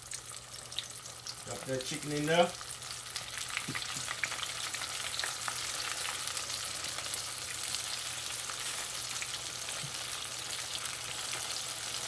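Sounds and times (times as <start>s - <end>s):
chicken wings deep-frying: 0.0s - 12.0s.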